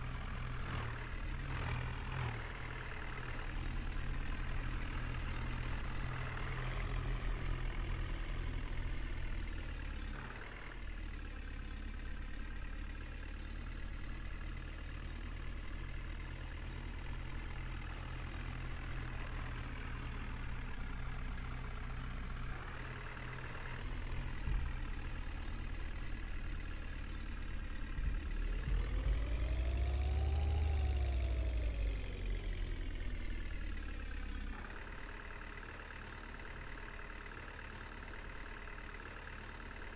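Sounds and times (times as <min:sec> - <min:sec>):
diesel engine running and revving: 0:00.0 - 0:39.9.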